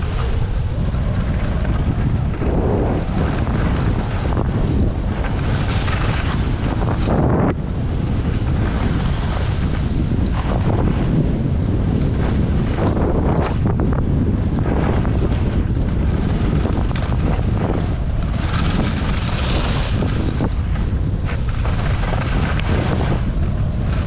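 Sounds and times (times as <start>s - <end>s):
skis scraping on snow: 0.0s - 24.0s
wind rushing over microphone: 0.0s - 24.0s.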